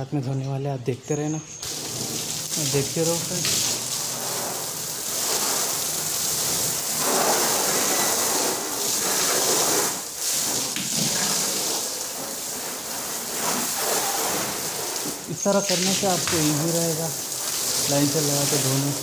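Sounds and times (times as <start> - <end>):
hose spray splashing on car: 1.5 - 19.0.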